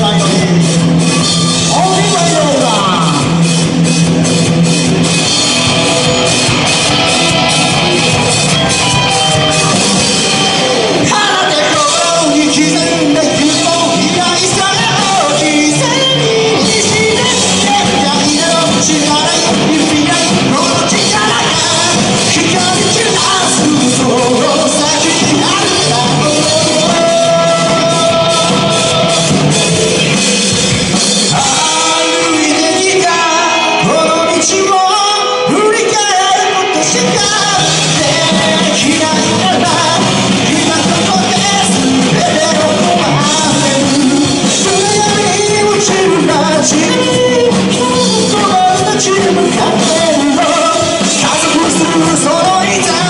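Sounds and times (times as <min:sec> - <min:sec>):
man singing: 0:00.0 - 0:03.5, 0:07.3 - 0:30.2, 0:31.2 - 0:53.0
bass guitar: 0:00.0 - 0:53.0
drum kit: 0:00.0 - 0:53.0
electric guitars: 0:00.0 - 0:53.0.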